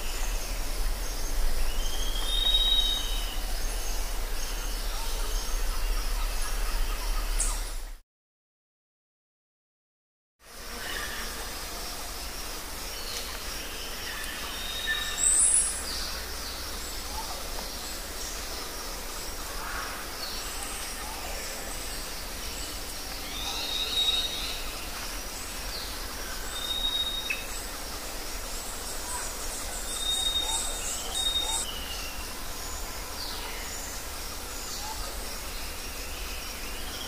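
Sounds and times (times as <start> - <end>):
birds chirping: 0.0 - 8.0, 12.8 - 37.0
steady background hiss: 0.0 - 8.0, 10.4 - 37.0.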